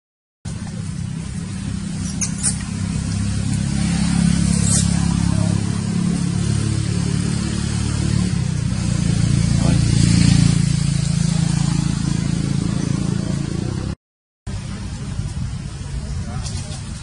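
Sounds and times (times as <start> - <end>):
low engine hum: 0.5 - 17.0.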